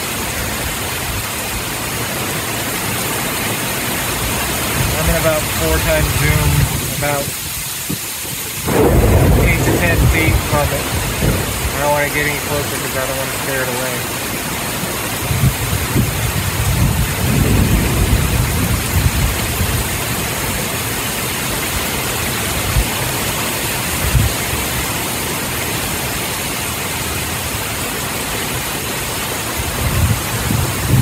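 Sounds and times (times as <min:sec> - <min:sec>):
torrential rain pouring: 0:00.0 - 0:31.0.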